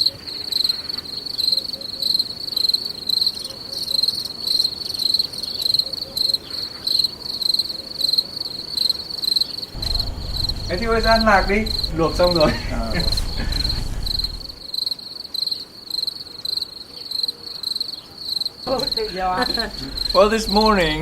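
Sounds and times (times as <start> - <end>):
insects chirping trill: 0.0 - 21.0.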